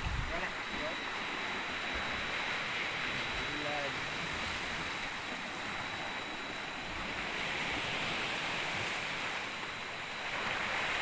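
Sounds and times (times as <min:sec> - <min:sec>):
sea waves washing in: 0:00.0 - 0:11.0.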